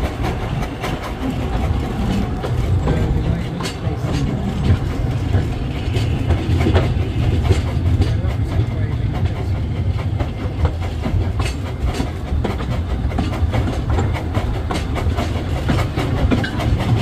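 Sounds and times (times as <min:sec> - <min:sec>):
steam train rumbling: 0:00.0 - 0:17.0
wheels clicking on track: 0:00.0 - 0:17.0.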